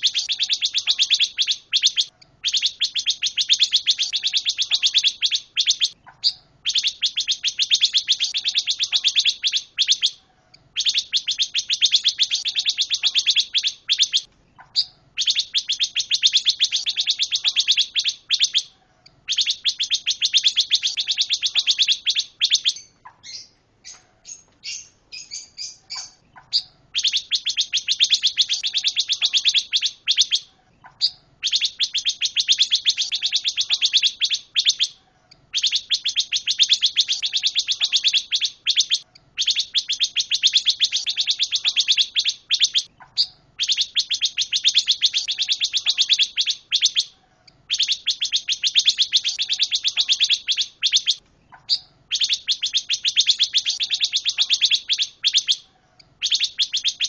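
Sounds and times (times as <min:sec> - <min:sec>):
songbird rattling chirps: 0:00.0 - 0:57.0.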